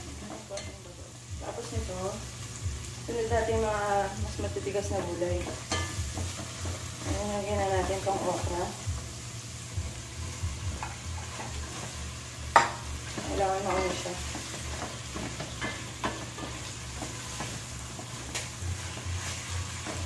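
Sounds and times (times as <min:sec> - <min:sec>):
food sizzling in pot: 0:00.0 - 0:20.0.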